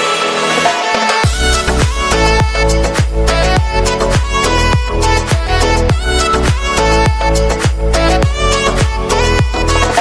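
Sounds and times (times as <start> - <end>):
low thumping beat: 1.2 - 10.0.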